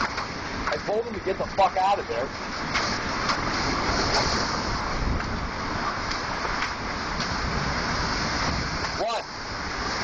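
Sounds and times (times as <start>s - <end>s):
strong wind blowing: 0.0s - 10.0s.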